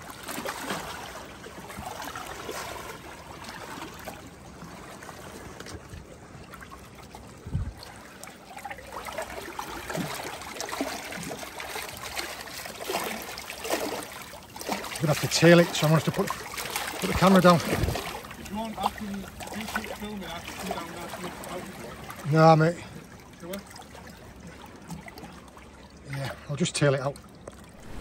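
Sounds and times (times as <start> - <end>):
fish splashing: 0.0 - 22.2, 27.4 - 28.0
seawater sloshing over rocks: 0.0 - 28.0.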